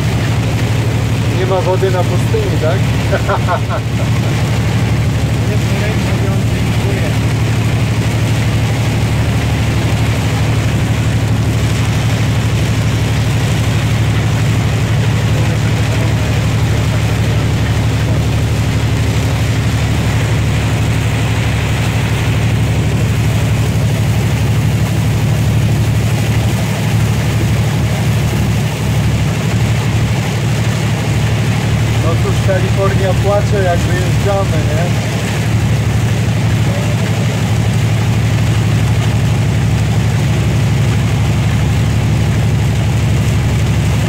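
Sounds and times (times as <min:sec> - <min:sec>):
rain and tyres on wet road: 0:00.0 - 0:44.0
truck engine droning: 0:00.0 - 0:44.0.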